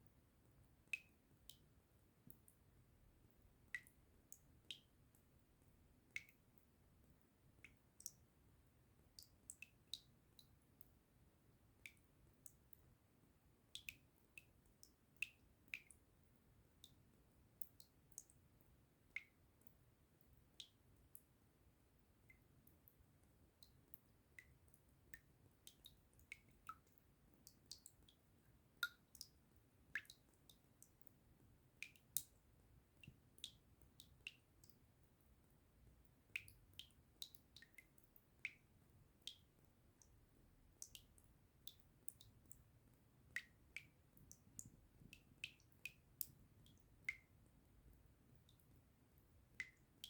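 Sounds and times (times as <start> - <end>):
water drops dripping: 0.9 - 2.6, 3.6 - 5.3, 6.0 - 6.7, 7.5 - 8.3, 9.1 - 11.0, 11.8 - 12.9, 13.7 - 16.1, 16.8 - 21.4, 22.2 - 50.0.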